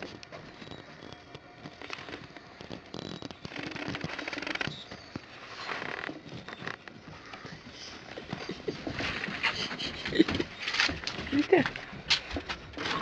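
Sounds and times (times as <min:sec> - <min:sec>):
footsteps on wooden stairs: 0:00.0 - 0:13.0.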